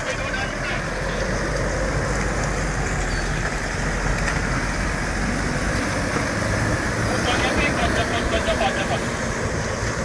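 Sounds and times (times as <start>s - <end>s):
tyre and road noise: 0.0s - 10.0s
vehicle engine rumble: 0.0s - 10.0s.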